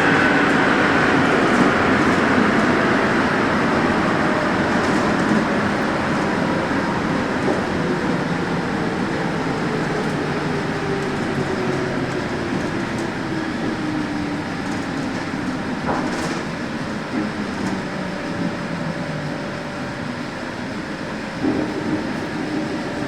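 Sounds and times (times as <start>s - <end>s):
train motor whine: 0.0s - 23.0s
train running noise: 0.0s - 23.0s.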